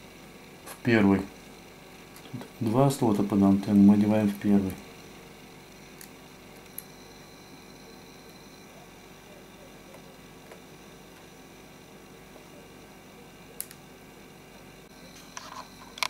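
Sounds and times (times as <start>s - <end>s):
low steady hiss: 0.0s - 15.4s.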